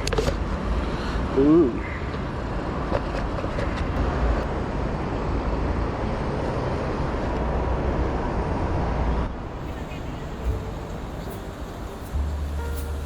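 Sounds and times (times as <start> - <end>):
road and traffic noise: 0.0 - 13.0
wind rumble on microphone: 2.4 - 13.0.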